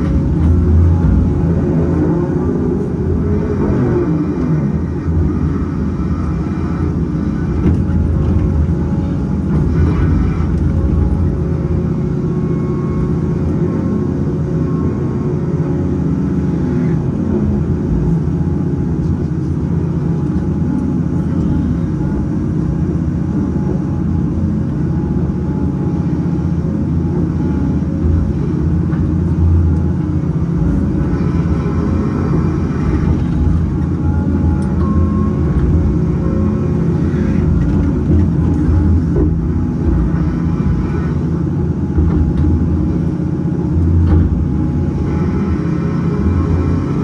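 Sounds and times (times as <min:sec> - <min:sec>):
diesel engine and hydraulics: 0:00.0 - 0:47.0.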